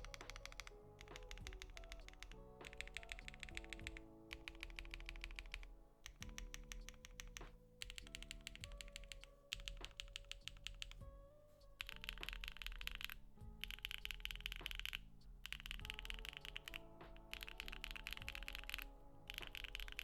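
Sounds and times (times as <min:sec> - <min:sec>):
mechanical keyboard typing: 0:00.0 - 0:11.1, 0:11.8 - 0:20.0
background music: 0:00.0 - 0:20.0.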